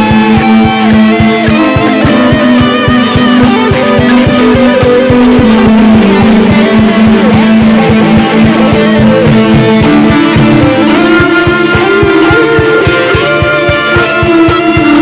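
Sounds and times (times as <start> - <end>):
fast steady low beat: 0.0 - 15.0
worship music led by guitar: 0.0 - 15.0.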